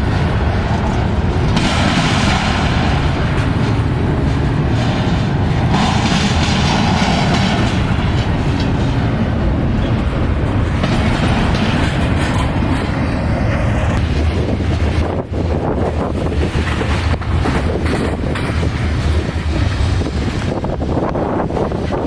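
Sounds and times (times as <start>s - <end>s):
freight train rolling past: 0.0s - 22.0s.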